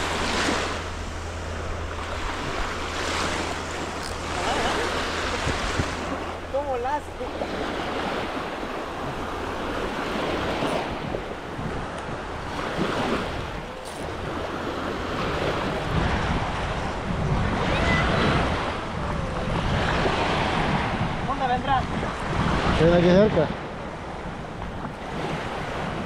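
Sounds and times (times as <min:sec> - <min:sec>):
waves washing onto shore: 0:00.0 - 0:26.0
wind buffeting microphone: 0:00.0 - 0:26.0.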